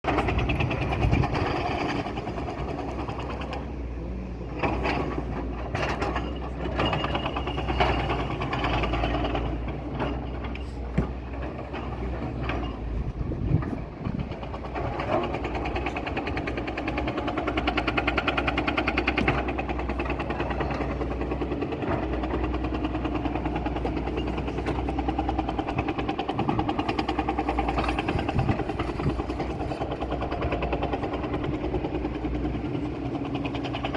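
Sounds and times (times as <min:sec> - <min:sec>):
excavator diesel engine running: 0:00.0 - 0:33.9
knocks and clanks: 0:04.5 - 0:33.9.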